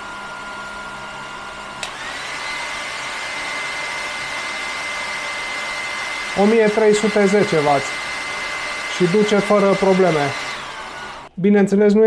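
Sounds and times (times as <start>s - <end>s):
cooling fans humming: 0.0s - 11.4s
hair dryer blowing: 0.0s - 11.4s.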